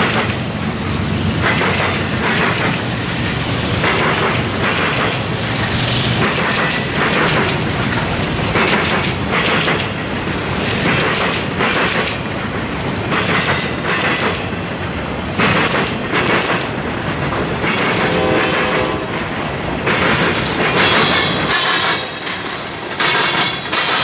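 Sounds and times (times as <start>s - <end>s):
freight train rumble: 0.0s - 24.0s
train wheels clicking on rail joints: 0.0s - 24.0s.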